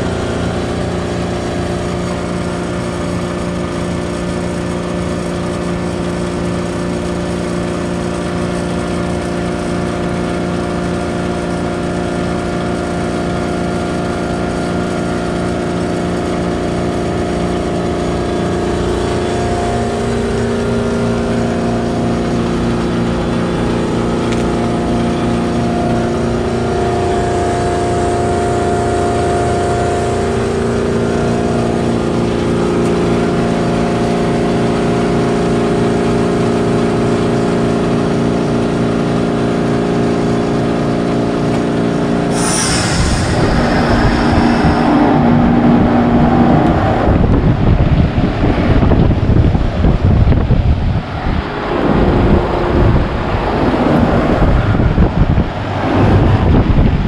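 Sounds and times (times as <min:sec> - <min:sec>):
heat pump mechanical hum: 0:00.0 - 0:57.0.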